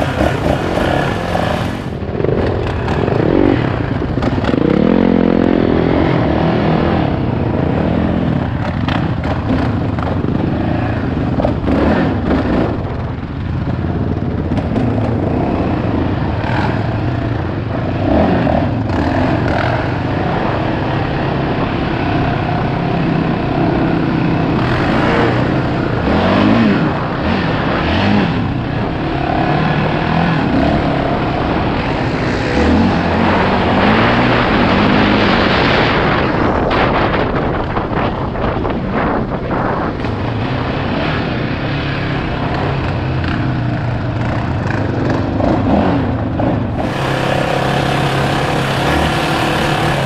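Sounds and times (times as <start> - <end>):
off-road motorcycle engine revving: 0.0 - 50.0
wind rushing on microphone: 0.0 - 50.0.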